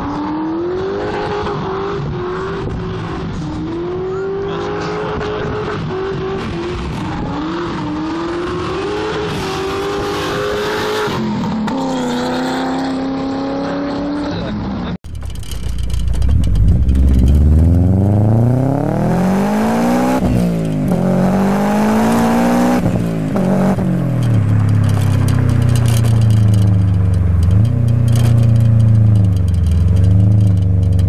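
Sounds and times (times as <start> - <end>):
car engine accelerating and shifting: 0.0 - 31.0.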